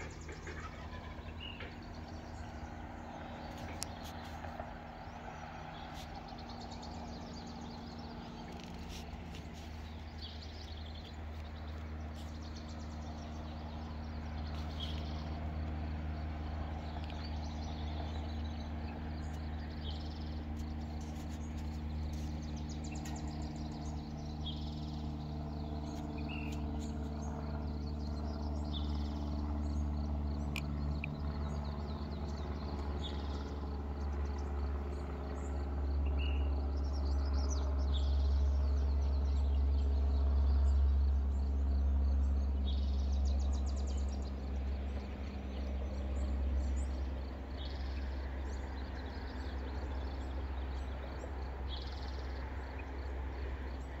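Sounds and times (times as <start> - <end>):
birds calling: 0.0 - 54.0
low rumble of road traffic: 0.0 - 54.0.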